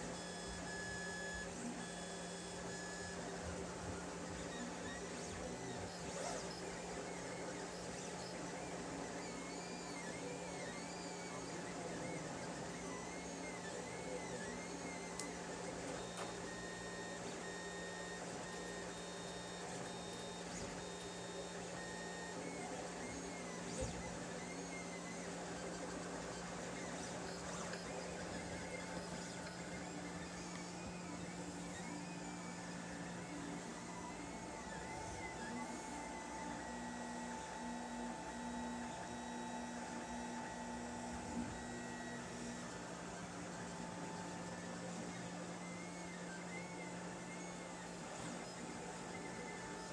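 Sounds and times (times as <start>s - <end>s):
stepper motors whining: 2.4s - 49.9s.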